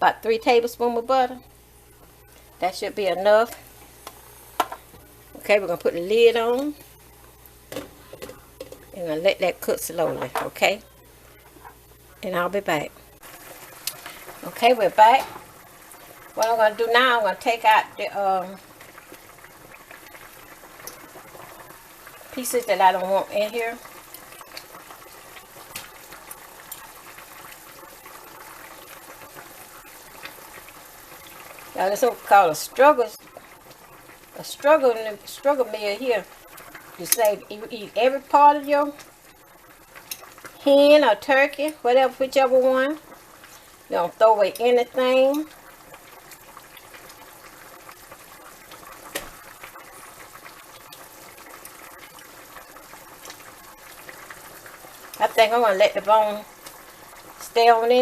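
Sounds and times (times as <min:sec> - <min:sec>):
broth bubbling in pot: 0:00.0 - 0:58.0.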